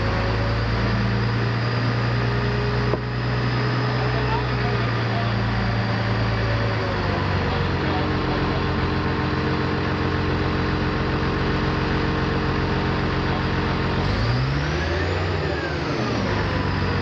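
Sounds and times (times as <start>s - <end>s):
diesel engine running and revving: 0.0s - 17.0s.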